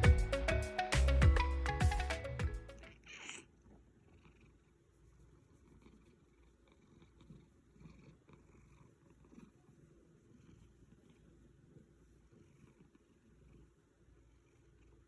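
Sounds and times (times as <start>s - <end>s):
cat purring: 2.7s - 15.0s.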